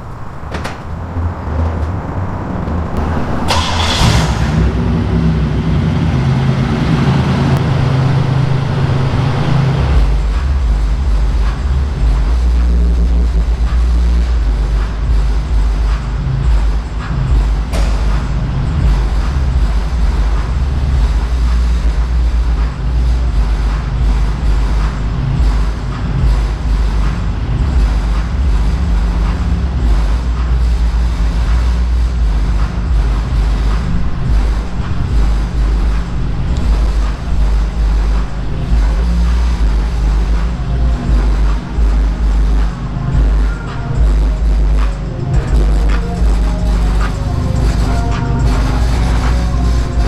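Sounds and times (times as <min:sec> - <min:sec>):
loud bass-heavy music from car speakers: 0:02.5 - 0:50.0.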